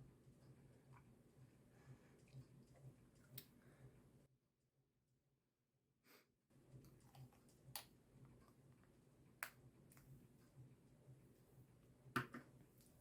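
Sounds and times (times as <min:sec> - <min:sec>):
faint low hum: 0:00.0 - 0:04.3, 0:06.5 - 0:13.0.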